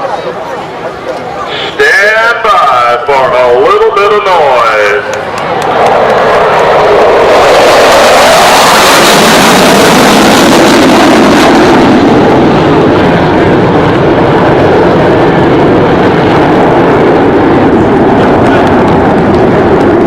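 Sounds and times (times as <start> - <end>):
aircraft flying low: 0.0 - 20.0.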